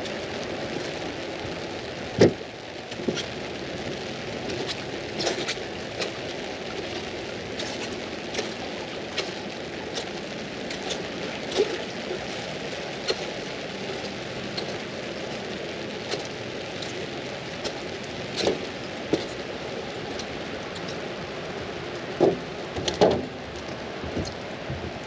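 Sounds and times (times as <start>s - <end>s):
raindrops tapping on fabric: 0.0s - 21.2s
rain on an umbrella: 0.0s - 25.0s.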